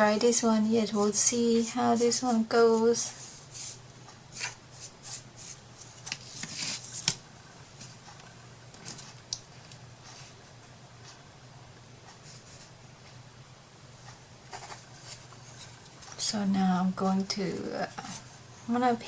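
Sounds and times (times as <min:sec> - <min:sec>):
faint steady low hum: 0:00.0 - 0:19.0.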